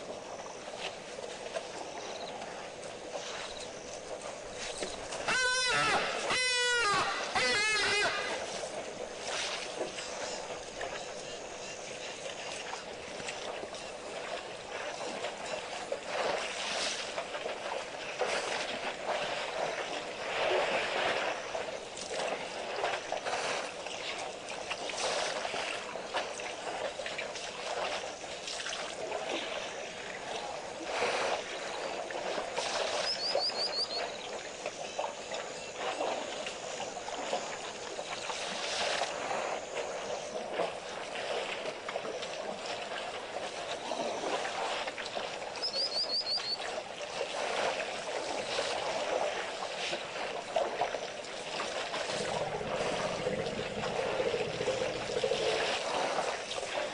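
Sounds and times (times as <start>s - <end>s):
water splashing and sloshing: 0.0s - 56.9s.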